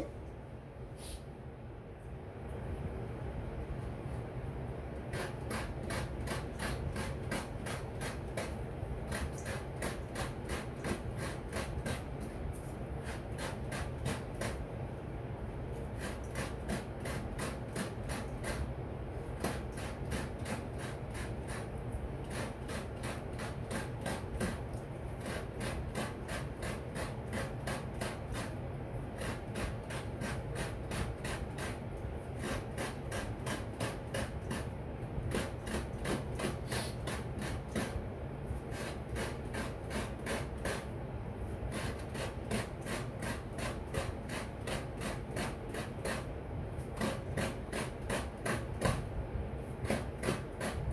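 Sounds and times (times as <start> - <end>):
coconut grater rasping: 5.1 - 14.6, 15.8 - 38.0, 38.6 - 40.9, 41.6 - 49.1, 49.8 - 50.9.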